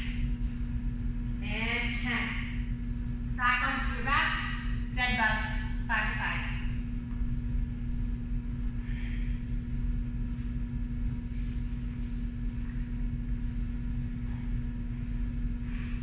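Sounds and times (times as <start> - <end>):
constant rumble: 0.0 - 16.0
low hum: 0.0 - 16.0.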